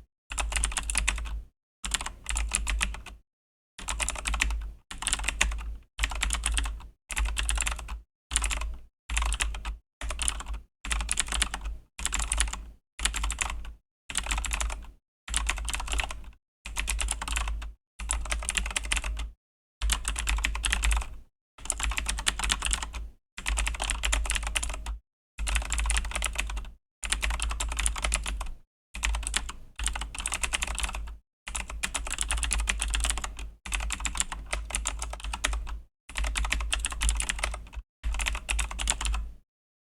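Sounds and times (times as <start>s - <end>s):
clicky keyboard typing: 3.8s - 39.4s.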